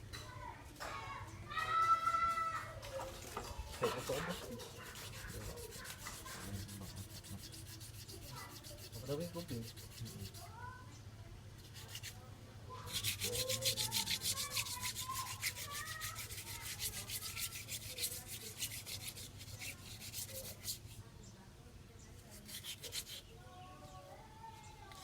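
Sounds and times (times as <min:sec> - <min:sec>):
scrubbing engine parts: 0:02.8 - 0:10.6, 0:11.5 - 0:21.1, 0:22.1 - 0:25.0.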